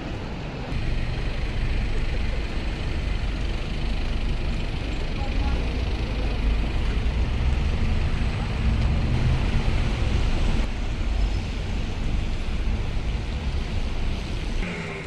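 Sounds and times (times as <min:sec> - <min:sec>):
vehicle rumble and road noise: 0:00.0 - 0:15.0.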